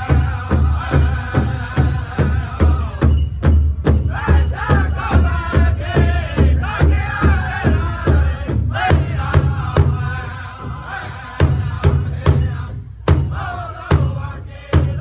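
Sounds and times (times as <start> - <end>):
group singing in high voices: 0.0 - 3.2, 4.0 - 15.0
large hand drum beating: 0.0 - 15.0.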